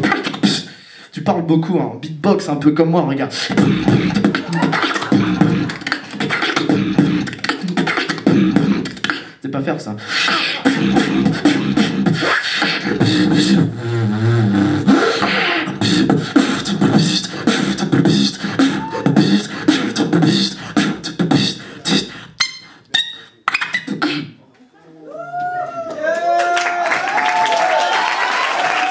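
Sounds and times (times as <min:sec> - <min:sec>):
vocal beatboxing through microphone: 0:00.0 - 0:24.4.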